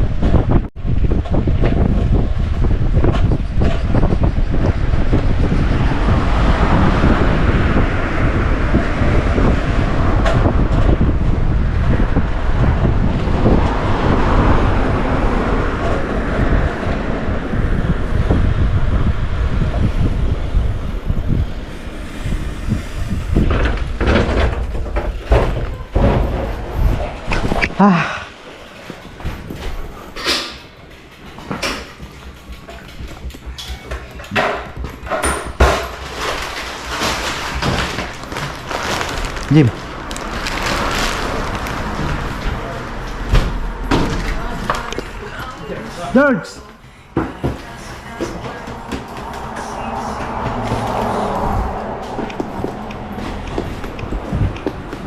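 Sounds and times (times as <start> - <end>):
moving vehicle rumble: 0.0 - 55.0.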